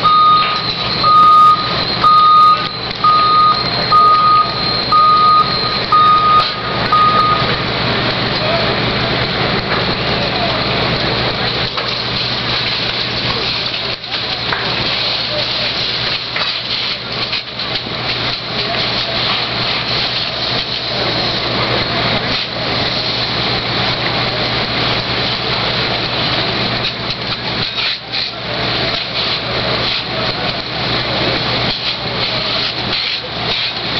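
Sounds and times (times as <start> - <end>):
fire truck engines humming: 0.0 - 33.9.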